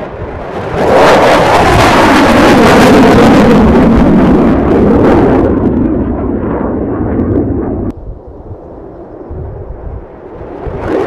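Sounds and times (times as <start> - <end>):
jet roar passing: 0.0 - 11.0.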